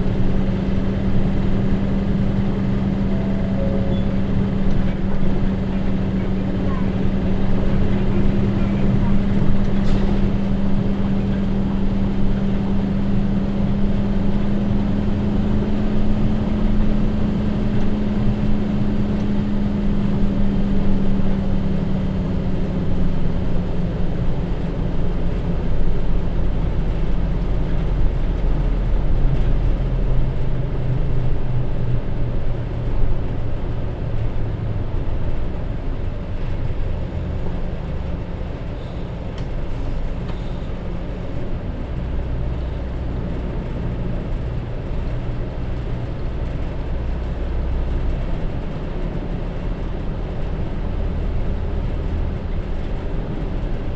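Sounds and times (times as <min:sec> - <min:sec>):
bus diesel engine droning: 0:00.0 - 0:53.9.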